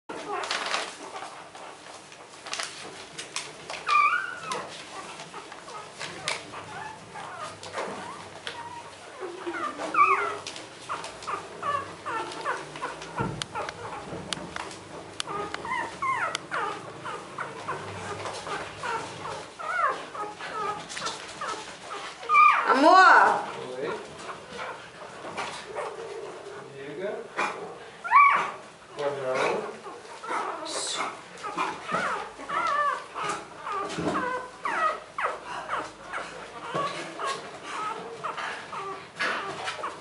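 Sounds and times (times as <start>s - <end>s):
puppies whimpering and squeaking: 0.1s - 40.0s.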